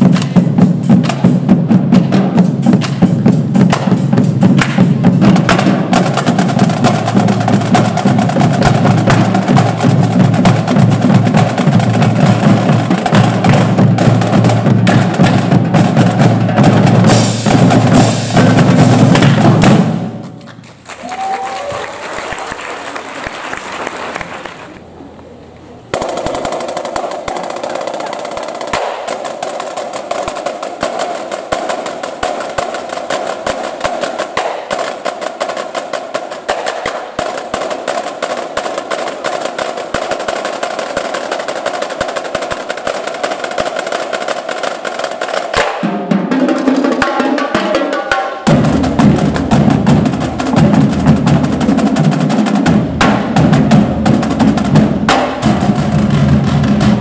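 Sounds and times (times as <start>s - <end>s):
deeper drums: 0.0s - 21.9s, 25.8s - 57.0s
snare drum rolls: 0.0s - 24.8s, 25.9s - 57.0s.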